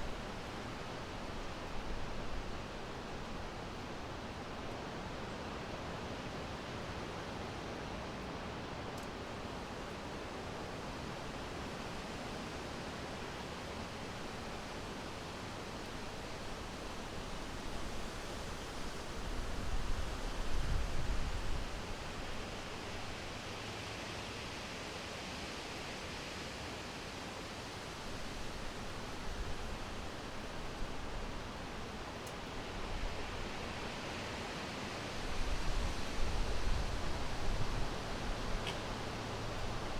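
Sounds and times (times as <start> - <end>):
wind rustling leaves: 0.0 - 39.9.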